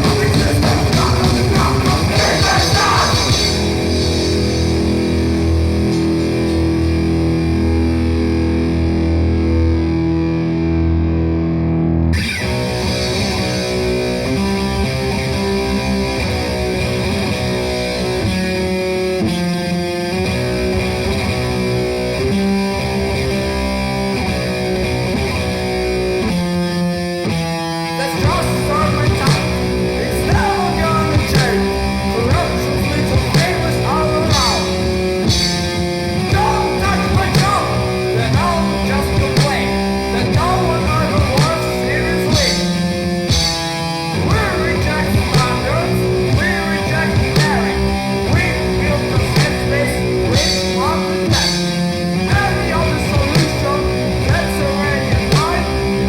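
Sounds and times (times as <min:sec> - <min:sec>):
distorted electric guitar music: 0:00.0 - 0:56.0.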